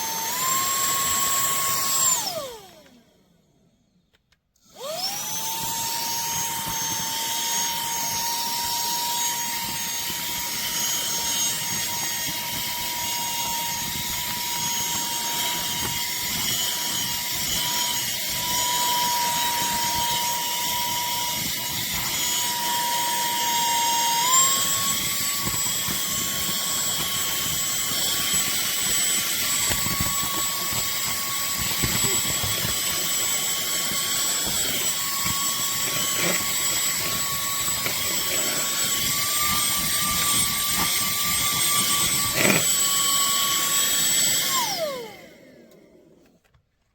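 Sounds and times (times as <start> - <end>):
handheld vacuum cleaner running: 0.0 - 46.7.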